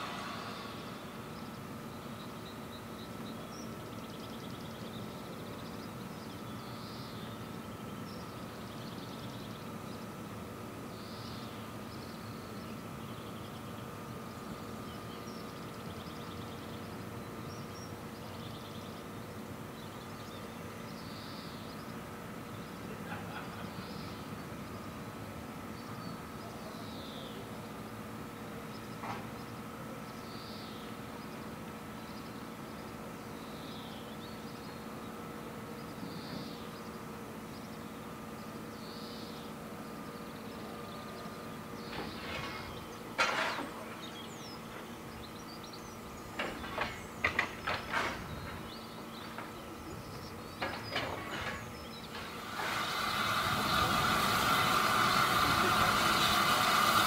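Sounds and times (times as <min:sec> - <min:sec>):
steam locomotive simmering hiss: 0:00.0 - 0:57.0.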